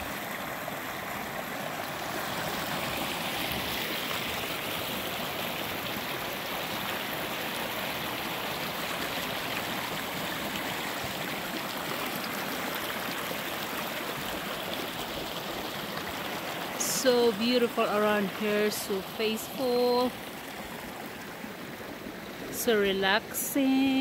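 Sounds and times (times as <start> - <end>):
creek flowing over rocks: 0.0 - 24.0.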